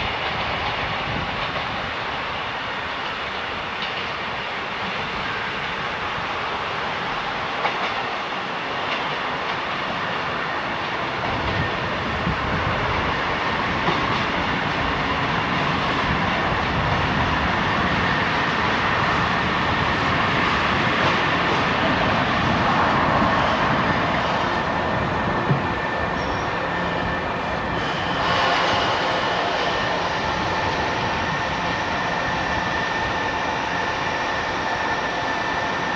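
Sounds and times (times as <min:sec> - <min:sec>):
train wheels on track: 0:00.0 - 0:35.9.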